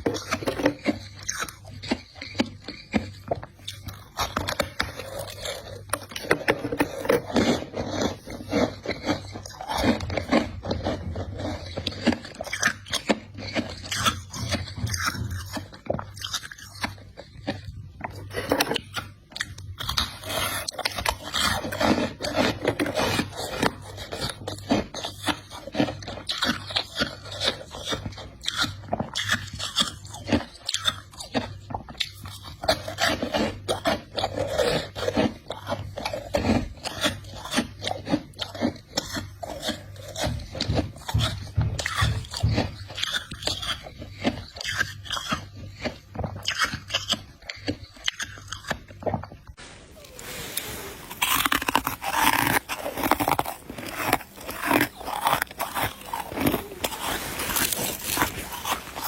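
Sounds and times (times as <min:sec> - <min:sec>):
ice crunching between teeth: 0:00.0 - 0:59.0.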